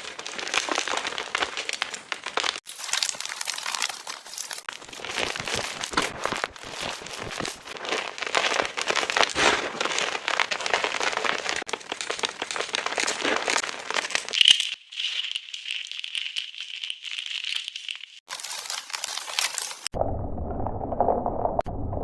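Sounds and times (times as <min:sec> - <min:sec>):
chalk crunching and crumbling: 0:00.0 - 0:19.9.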